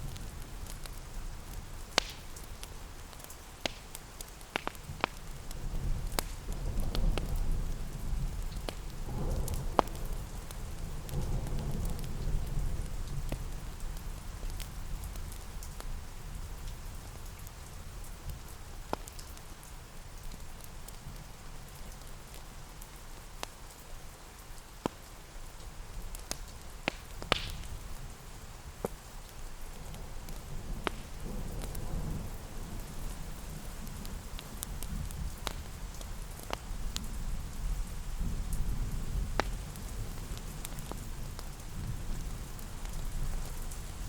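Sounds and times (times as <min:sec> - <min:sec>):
steady rain: 0:00.0 - 0:44.0
wood fire popping and crackling: 0:00.0 - 0:44.0.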